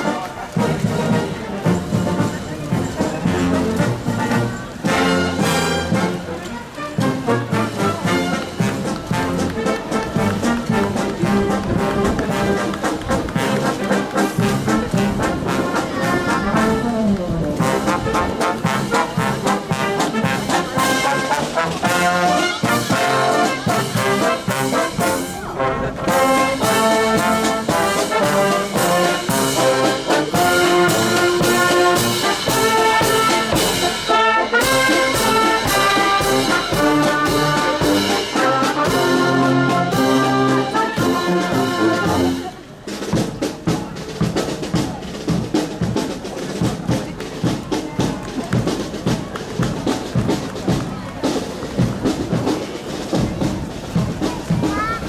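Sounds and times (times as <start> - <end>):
steady drum beat: 0.0 - 6.4, 7.0 - 55.0
marching brass band: 0.0 - 55.0.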